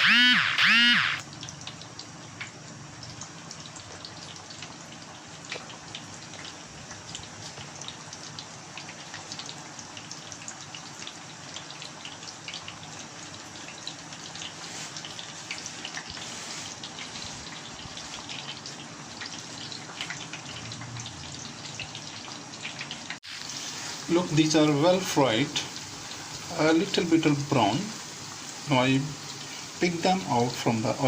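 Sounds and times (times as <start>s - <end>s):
deep-frying sizzle with crackling pops: 1.2s - 31.0s.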